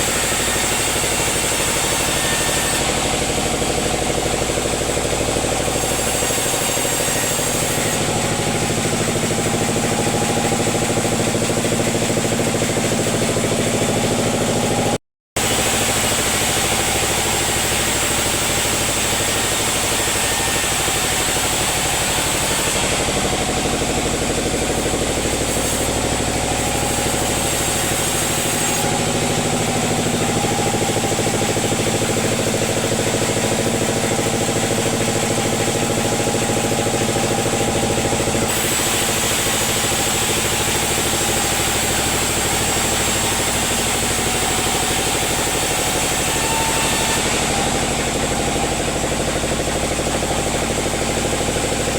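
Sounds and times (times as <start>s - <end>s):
sawmill machinery droning: 0.0s - 51.9s.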